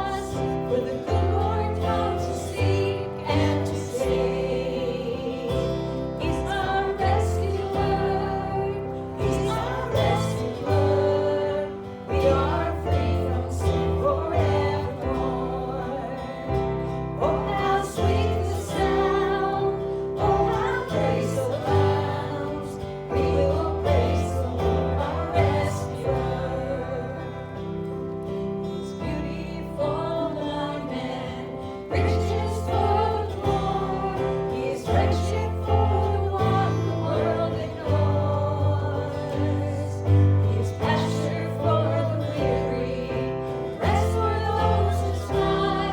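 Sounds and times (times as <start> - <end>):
guitar: 0.0 - 45.9
voices singing together: 0.0 - 45.9.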